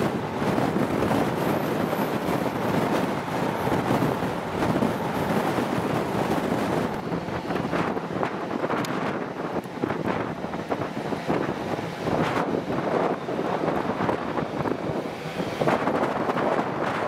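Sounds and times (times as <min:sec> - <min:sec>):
train rushing at speed: 0:00.0 - 0:17.0.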